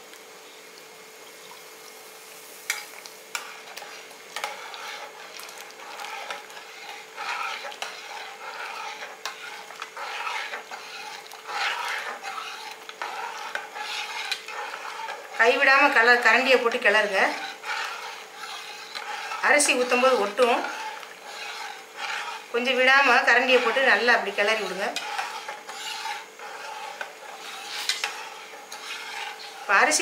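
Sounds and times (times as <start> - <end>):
faint bubbling hiss: 0.0 - 30.0.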